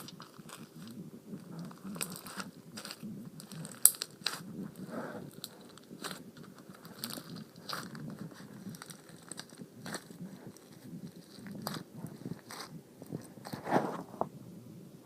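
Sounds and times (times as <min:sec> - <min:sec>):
slime beads crackling: 0:00.0 - 0:13.5
soft squishing: 0:00.0 - 0:14.4.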